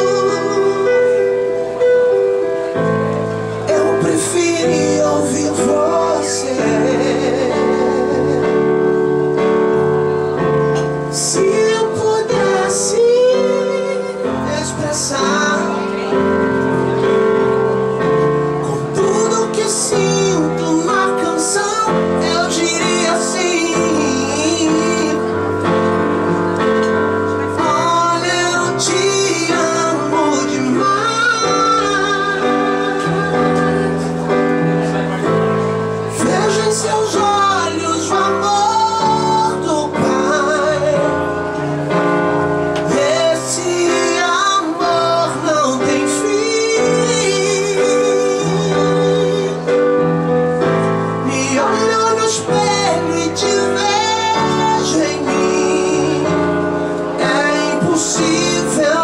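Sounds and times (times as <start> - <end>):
keyboard accompaniment: 0.0 - 59.0
man singing into a microphone: 0.0 - 59.0.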